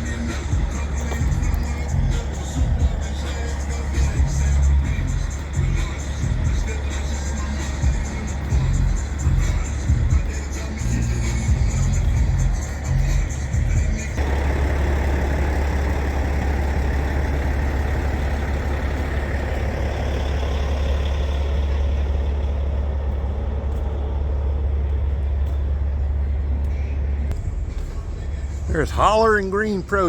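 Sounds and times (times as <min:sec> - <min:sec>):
truck diesel engine idling: 0:00.0 - 0:30.0.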